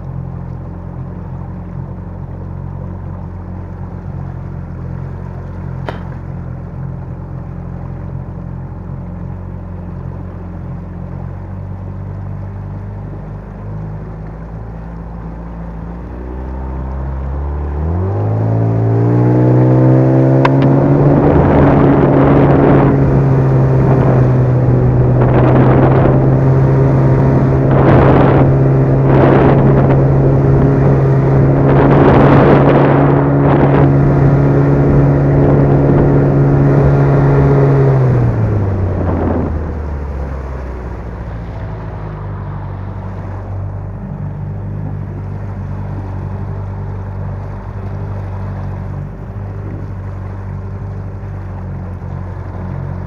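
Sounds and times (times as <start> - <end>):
outboard motor running: 0.0 - 53.0
water rushing: 0.0 - 53.0.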